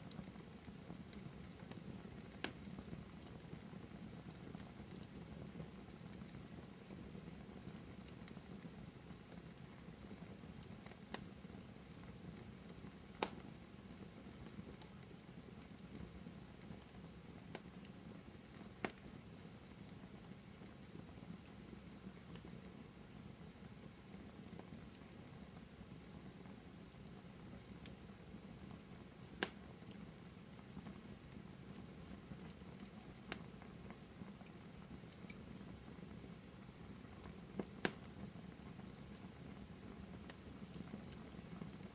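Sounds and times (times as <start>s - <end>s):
fire crackling in a fireplace: 0.0s - 41.9s.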